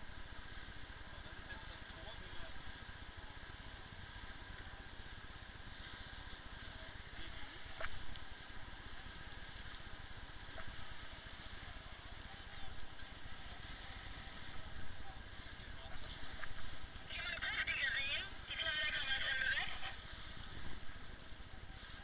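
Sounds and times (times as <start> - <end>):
motorboat engine humming: 0.0 - 22.0.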